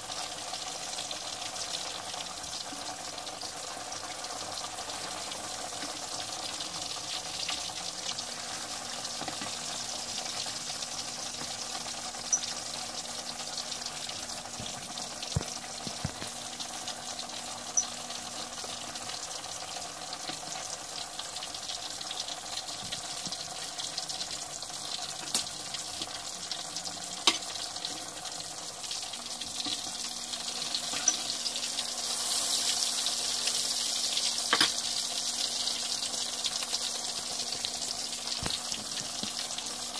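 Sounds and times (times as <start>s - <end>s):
meat sizzling in hot oil: 0.0s - 39.9s
sharp ticks of frying oil: 0.0s - 39.9s.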